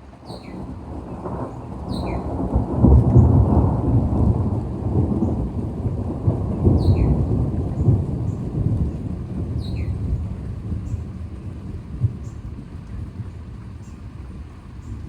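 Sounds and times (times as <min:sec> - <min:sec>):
rain falling: 0:00.0 - 0:15.0
thunder rumbling: 0:00.0 - 0:15.0.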